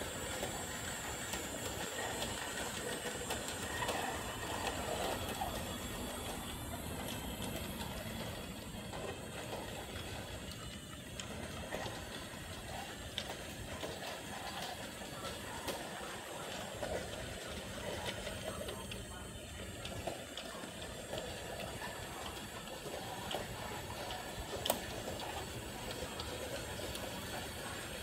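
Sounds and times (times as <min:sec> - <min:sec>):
toy train motor whirring: 0:00.0 - 0:28.0.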